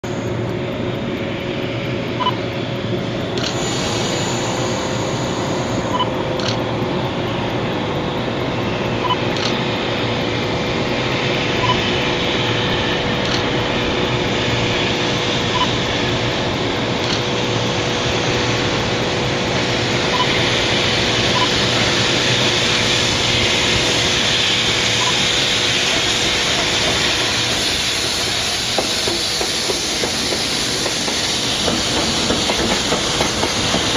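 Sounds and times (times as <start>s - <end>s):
freight train rumbling on rails: 0.0s - 33.9s.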